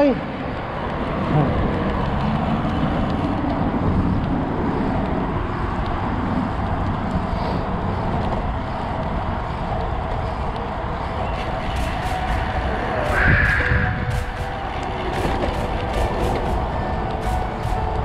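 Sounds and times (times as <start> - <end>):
bicycle road noise: 0.0 - 18.0
wind rushing: 0.2 - 18.0.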